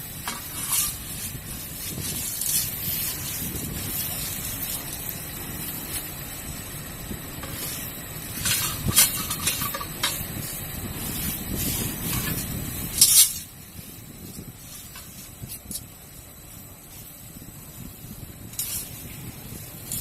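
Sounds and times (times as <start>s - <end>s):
bursts of hissing steam: 0.0s - 20.0s
hot steel quenching hiss: 0.0s - 20.0s.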